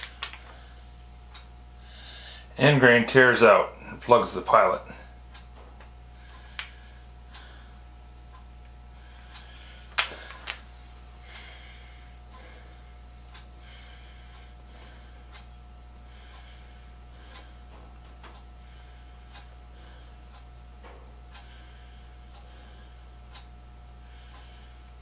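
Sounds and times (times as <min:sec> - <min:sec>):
soft breathing: 0:00.0 - 0:02.6, 0:06.1 - 0:25.0
steady low hum: 0:00.0 - 0:25.0.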